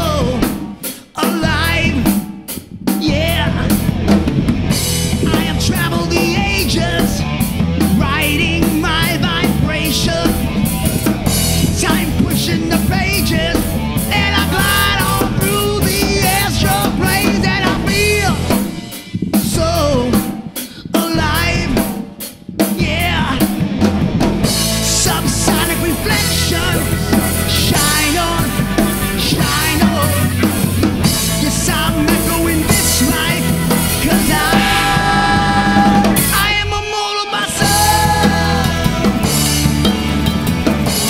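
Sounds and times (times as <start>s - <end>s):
person singing: 0.0s - 2.3s, 2.9s - 4.0s, 5.1s - 22.0s, 24.8s - 41.0s
rock band playing live: 0.0s - 41.0s.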